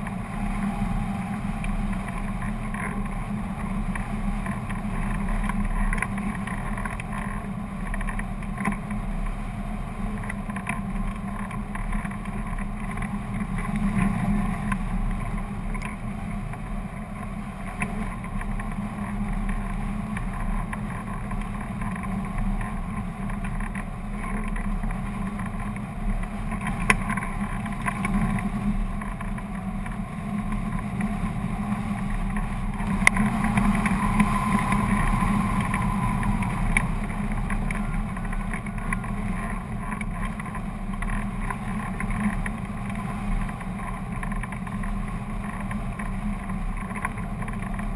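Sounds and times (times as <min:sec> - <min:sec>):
wind rushing over camera: 0:00.0 - 0:47.9.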